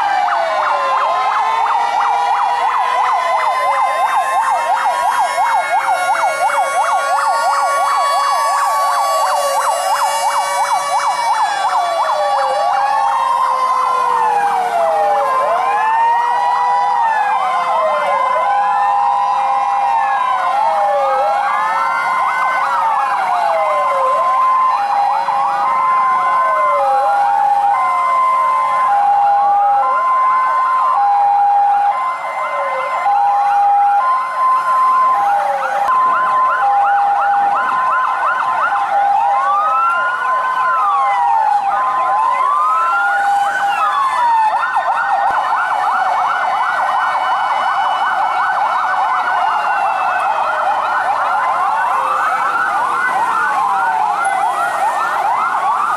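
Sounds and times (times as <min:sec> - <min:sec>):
two-tone siren: 0:00.0 - 0:55.9
wailing siren: 0:00.0 - 0:55.9
yelping siren: 0:00.0 - 0:55.9.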